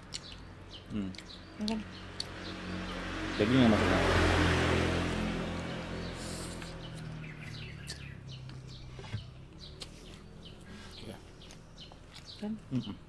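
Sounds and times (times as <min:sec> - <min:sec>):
low engine hum: 0:00.0 - 0:13.0
small birds chirping: 0:00.0 - 0:13.0.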